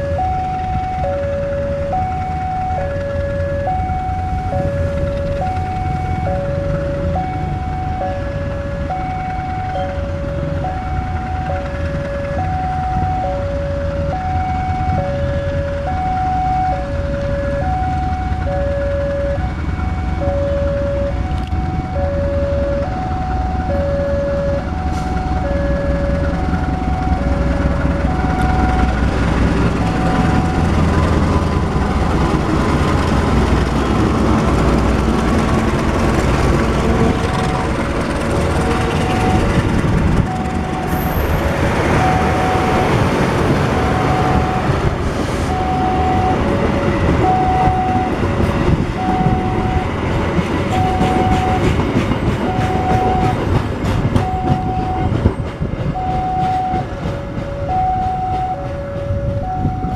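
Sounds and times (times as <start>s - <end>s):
level crossing two-tone alarm: 0.0s - 32.2s, 38.7s - 44.8s, 45.5s - 48.2s, 48.9s - 50.0s, 50.7s - 51.8s, 52.4s - 53.5s, 54.2s - 55.2s, 55.9s - 59.9s
diesel locomotive rumble: 0.0s - 59.9s.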